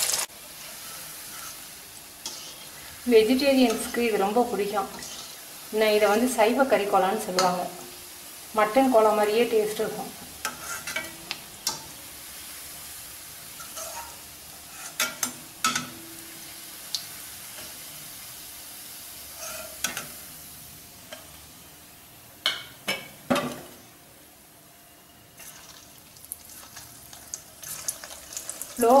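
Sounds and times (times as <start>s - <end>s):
oil sizzling in a pan: 0.0s - 29.0s.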